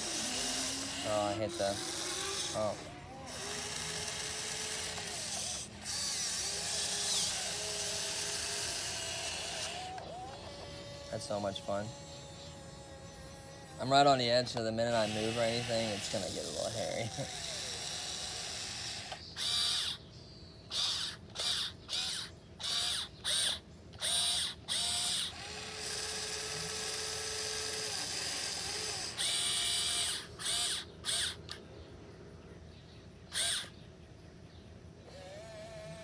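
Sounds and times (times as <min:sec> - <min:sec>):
electric motors whining: 0:00.0 - 0:20.1, 0:20.7 - 0:31.6, 0:33.3 - 0:33.8, 0:35.0 - 0:36.0.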